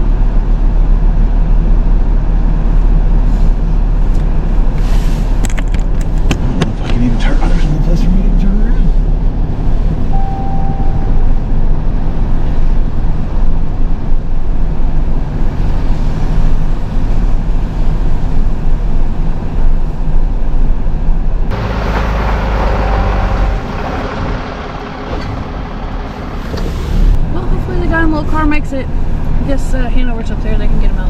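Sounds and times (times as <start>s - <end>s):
truck engine droning: 0.0s - 20.4s, 21.2s - 31.0s.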